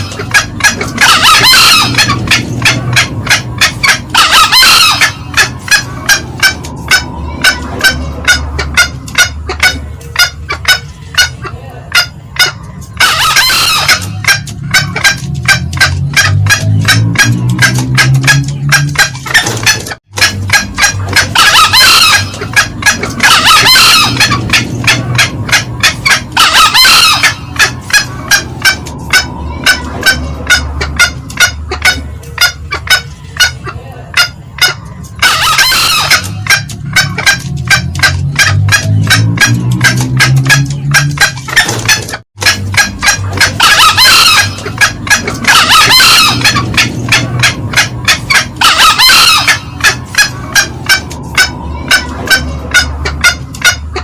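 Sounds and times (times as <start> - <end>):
junglefowl cackling calls: 0.0 - 54.0.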